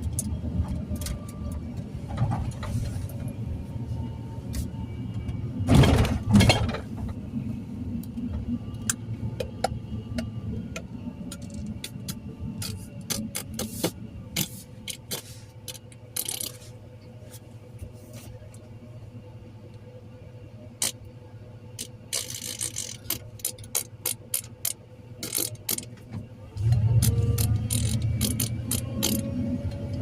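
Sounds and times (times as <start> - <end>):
clicks and rattles in vehicle: 0.0 - 3.5, 4.4 - 18.8, 20.6 - 30.0
low engine rumble: 0.0 - 30.0.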